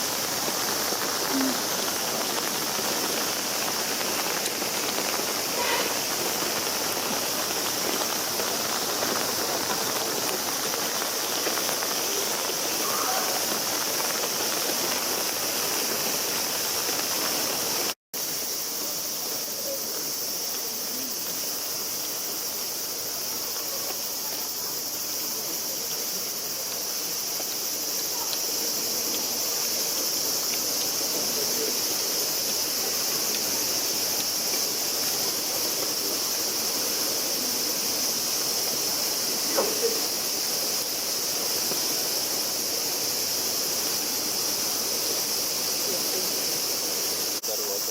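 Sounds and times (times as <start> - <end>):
heavy rain hissing: 0.0 - 47.9.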